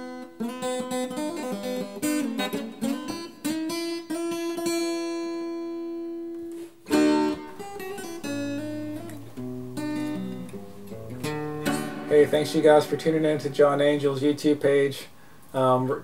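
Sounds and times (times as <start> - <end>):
acoustic guitar playing: 0.0 - 15.7.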